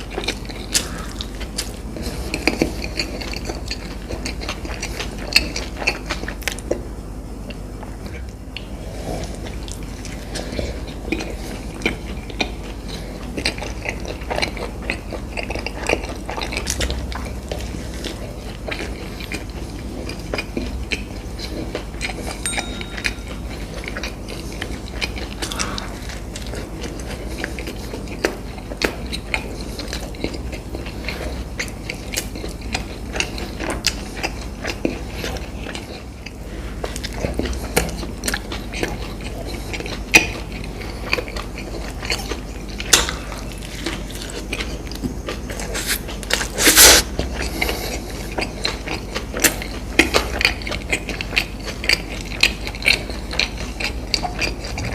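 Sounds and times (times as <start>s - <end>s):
chewing and crunching: 0.0s - 54.9s.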